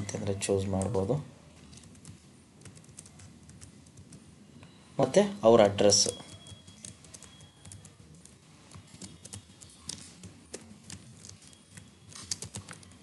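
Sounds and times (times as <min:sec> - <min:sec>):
computer keyboard typing: 0:00.0 - 0:01.1, 0:01.7 - 0:04.2, 0:05.9 - 0:13.0.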